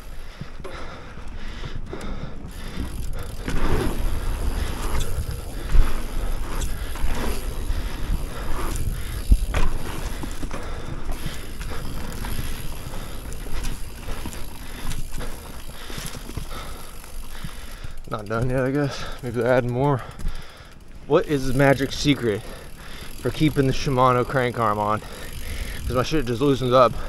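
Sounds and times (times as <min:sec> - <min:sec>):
bike rattling: 0:00.0 - 0:27.0
tyres rumbling on dirt: 0:02.5 - 0:27.0.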